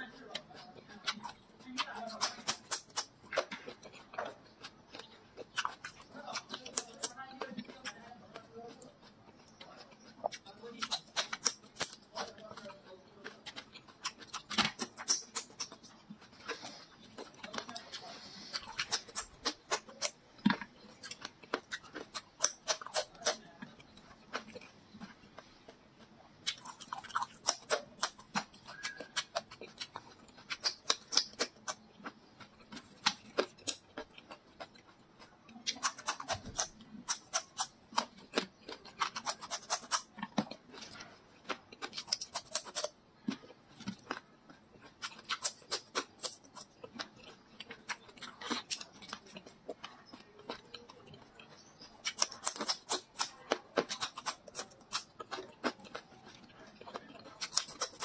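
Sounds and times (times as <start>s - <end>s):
crunching and chewing peppers: 0.0s - 58.0s.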